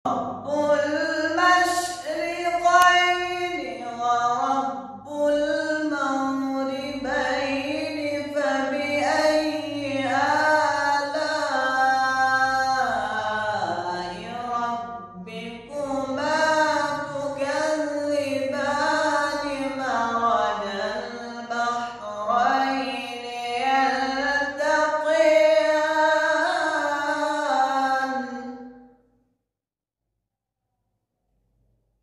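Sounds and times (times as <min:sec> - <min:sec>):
person chanting melodic recitation: 0:00.0 - 0:28.8.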